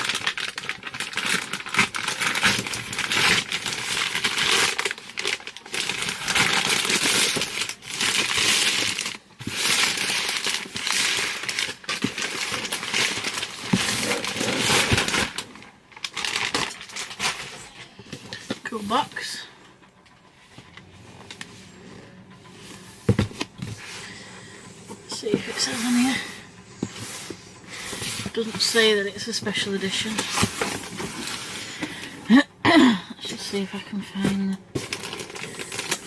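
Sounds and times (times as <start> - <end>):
packaging crinkling and rustling: 0.0 - 19.3, 22.4 - 32.4, 33.4 - 36.0.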